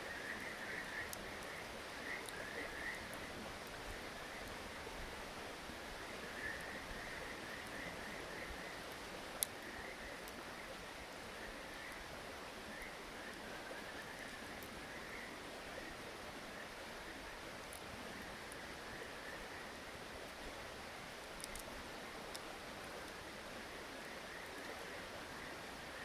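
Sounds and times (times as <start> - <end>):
bonfire crackle: 0.1 - 26.0.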